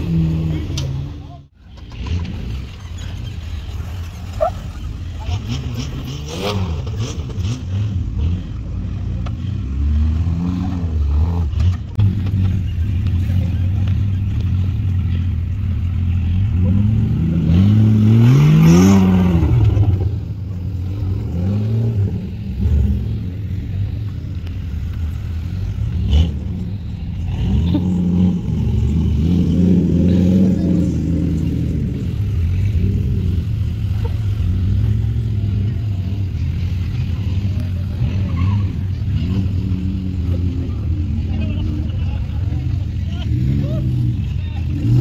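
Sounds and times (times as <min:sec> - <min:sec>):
engine revving: 0:00.0 - 0:45.0.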